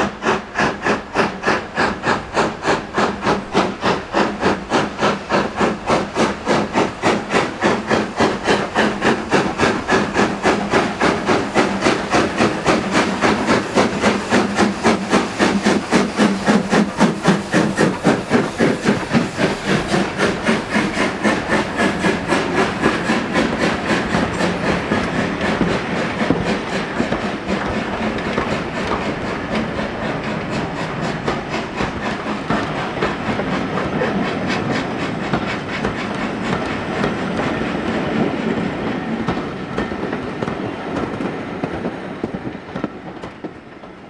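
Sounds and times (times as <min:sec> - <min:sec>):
steam locomotive exhaust beats: 0:00.0 - 0:44.0
train coaches running by: 0:00.0 - 0:44.0.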